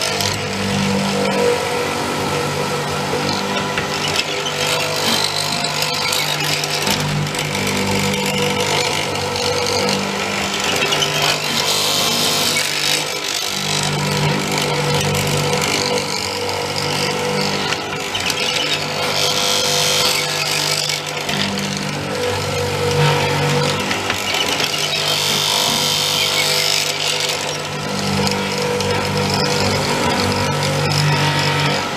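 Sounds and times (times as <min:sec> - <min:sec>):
mortiser motor humming: 0:00.0 - 0:31.9.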